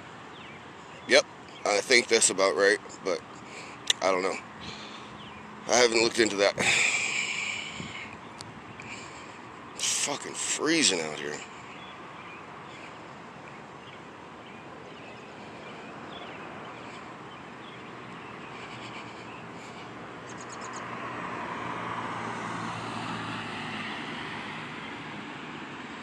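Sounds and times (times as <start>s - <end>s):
outdoor background noise: 0.0s - 26.0s
passing vehicle engine hum: 0.0s - 26.0s.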